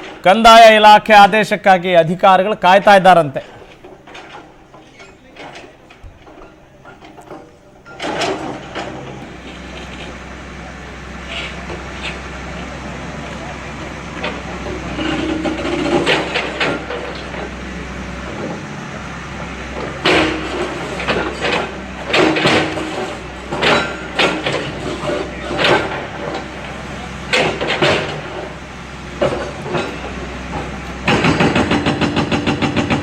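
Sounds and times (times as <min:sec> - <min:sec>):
demolition clanks and crashes: 0:03.4 - 0:33.0
diesel engine running: 0:05.5 - 0:33.0.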